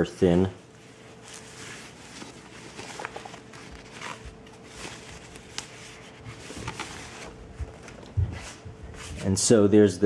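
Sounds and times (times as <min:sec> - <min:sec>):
fabric sleeve rustling on cardboard: 0:00.7 - 0:09.3.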